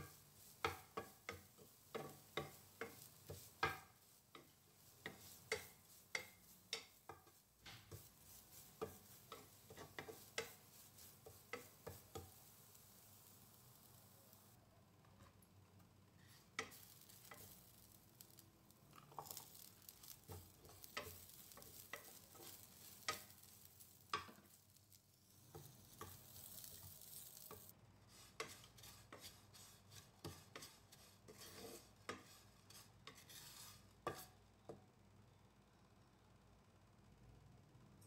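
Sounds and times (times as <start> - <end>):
spatula scraping a frying pan: 0.0 - 14.4, 16.2 - 34.4
faint sizzle: 0.0 - 38.0.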